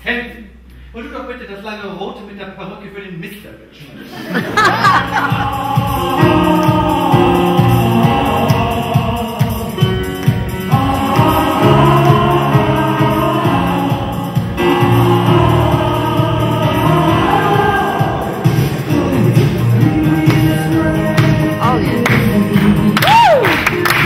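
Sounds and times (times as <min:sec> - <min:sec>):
music with singing over a beat: 0:04.5 - 0:24.0.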